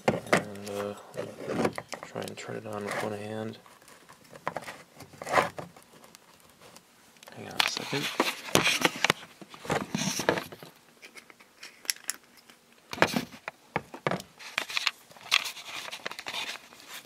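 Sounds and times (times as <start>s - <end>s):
plastic rustling: 0.0s - 17.0s.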